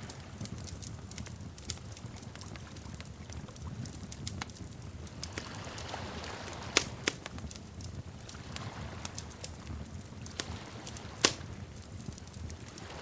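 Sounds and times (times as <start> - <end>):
low rumble of flames: 0.0 - 13.0
wood fire crackling: 0.0 - 13.0.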